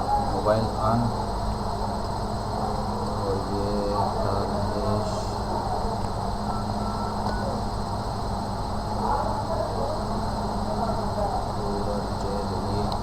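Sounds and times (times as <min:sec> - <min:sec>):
faint voices talking: 0:00.0 - 0:13.0
steady background hum: 0:00.0 - 0:13.0.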